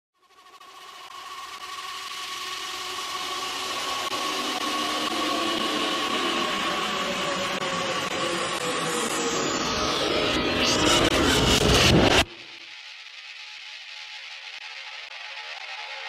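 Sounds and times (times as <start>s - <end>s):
steady held tone: 0.2s - 15.1s
whooshing electronic drone: 0.2s - 16.0s.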